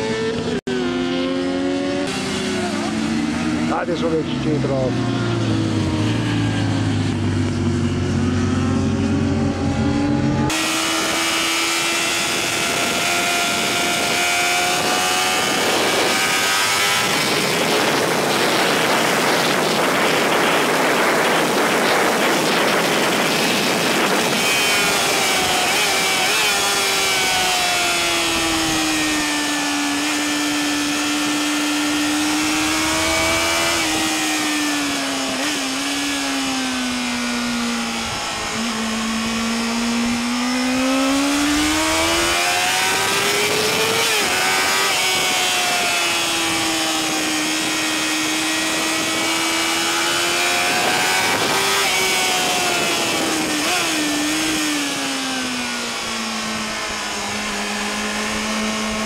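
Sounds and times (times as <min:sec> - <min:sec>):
motorcycle engines: 0:00.0 - 0:59.0
sport motorcycle engine at speed: 0:00.0 - 0:59.0
wind rush on microphone: 0:05.3 - 0:59.0.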